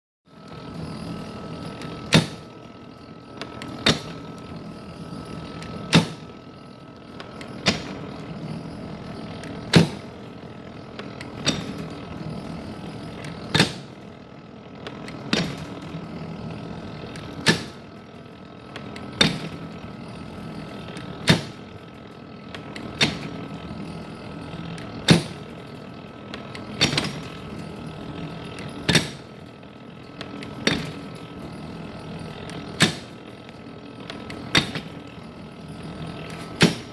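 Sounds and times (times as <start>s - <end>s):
machine hum with faint whine: 0.3s - 36.9s.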